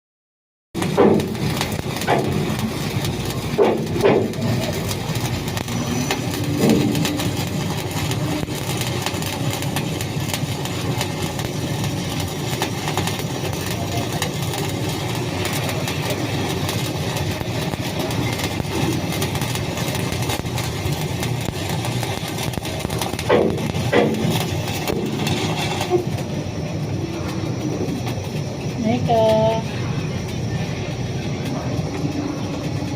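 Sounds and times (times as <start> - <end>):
low machine hum: 0.8 - 32.9
welding arc crackling and hissing: 0.8 - 32.9.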